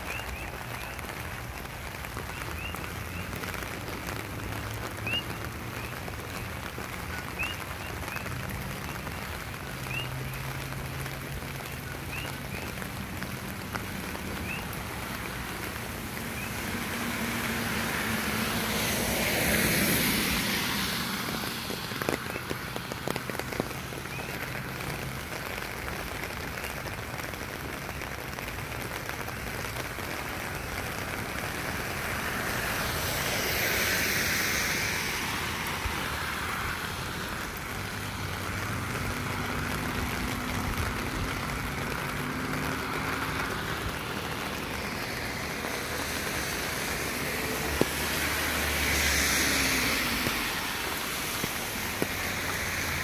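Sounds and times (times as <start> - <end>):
steady rain: 0.0 - 53.0
tyres hissing on wet road: 0.0 - 53.0.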